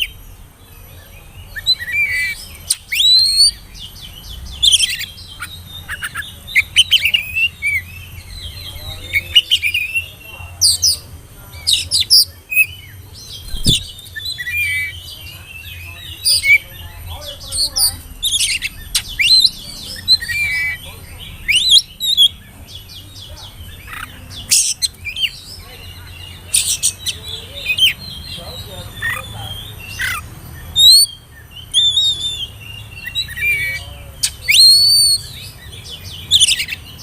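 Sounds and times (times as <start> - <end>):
bird singing whistles and chirps: 0.0 - 11.0, 11.6 - 37.0.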